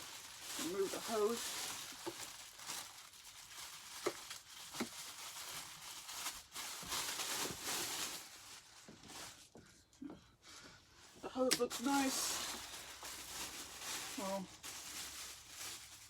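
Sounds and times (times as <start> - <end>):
packaging rustling and crinkling: 0.0 - 9.6, 11.5 - 16.0.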